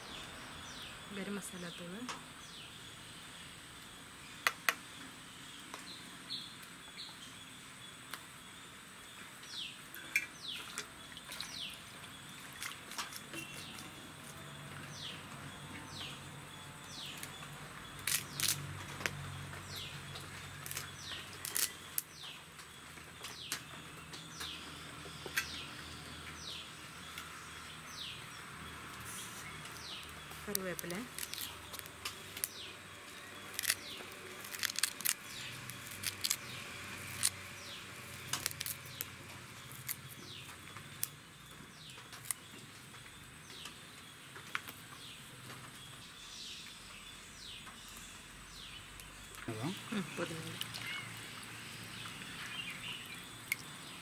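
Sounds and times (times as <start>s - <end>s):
small bird chirping: 0.0s - 54.0s.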